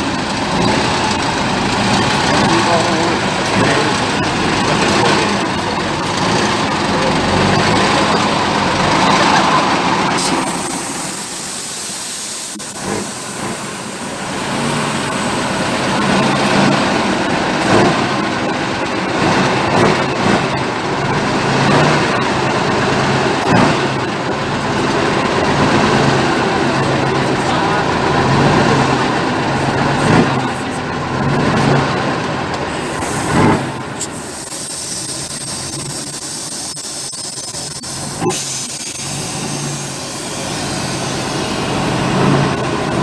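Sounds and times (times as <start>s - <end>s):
diesel truck engine under load: 0.0s - 43.0s.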